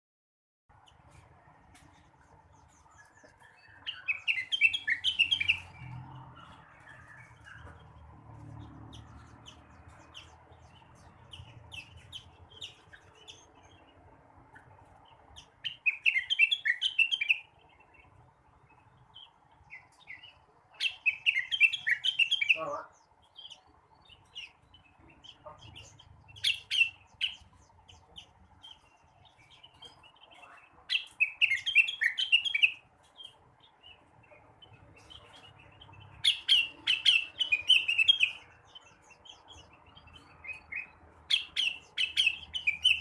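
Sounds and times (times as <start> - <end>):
bird singing high chirps: 2.0 - 43.0.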